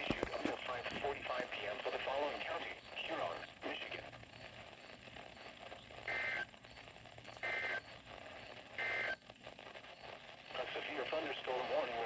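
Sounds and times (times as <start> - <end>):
faint radio hiss: 0.0 - 12.0.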